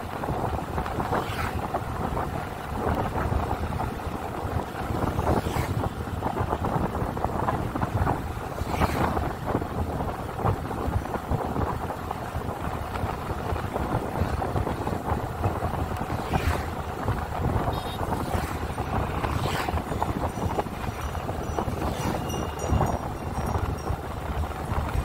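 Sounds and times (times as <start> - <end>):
vehicles passing swooshes: 0.0 - 11.4, 12.1 - 25.0
road noise: 0.0 - 25.0
wind buffeting microphone: 0.0 - 25.0.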